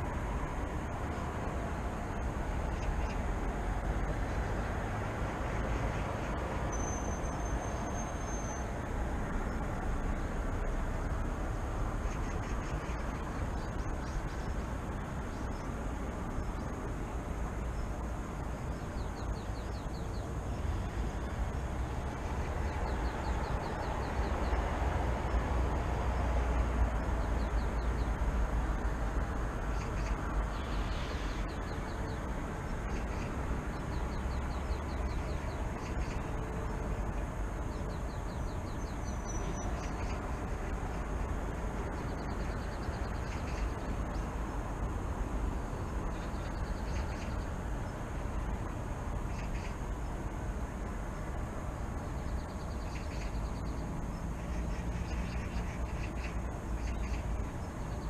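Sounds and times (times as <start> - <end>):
distant city traffic rumble: 0.0 - 58.0.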